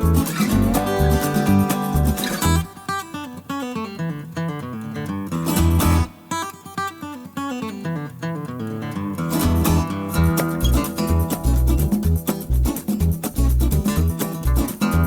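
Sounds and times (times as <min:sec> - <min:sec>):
acoustic guitar picking melody: 0:00.0 - 0:15.0.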